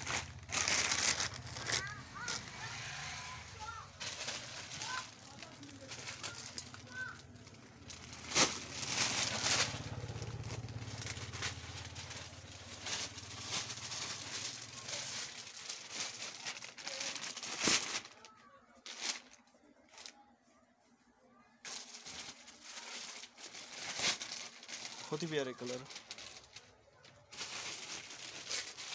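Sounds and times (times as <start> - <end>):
cloth and plastic rustling: 0.0 - 28.9.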